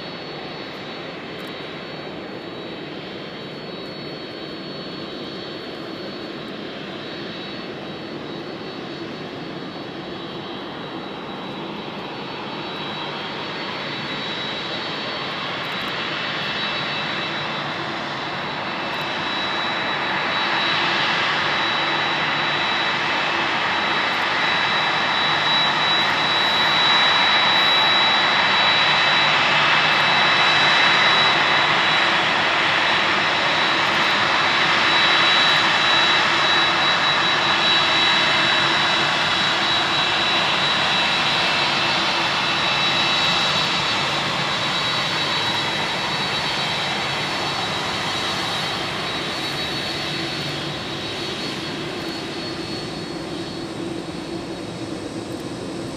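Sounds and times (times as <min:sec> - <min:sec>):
jet engines roaring with whine: 0:00.0 - 0:55.9.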